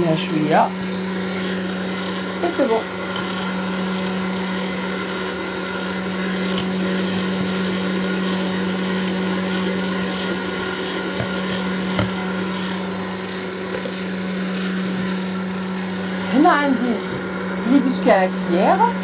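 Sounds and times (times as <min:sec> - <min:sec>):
stand mixer running: 0:00.0 - 0:19.0.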